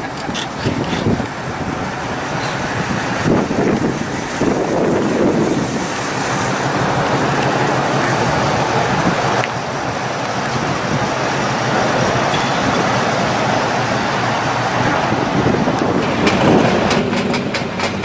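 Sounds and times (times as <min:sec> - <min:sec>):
low engine hum: 0:00.0 - 0:18.0
wind buffeting microphone: 0:00.0 - 0:18.0.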